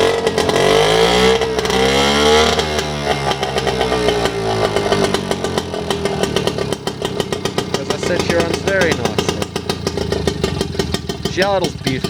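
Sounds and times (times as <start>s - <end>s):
outboard engine revving: 0.0s - 12.0s.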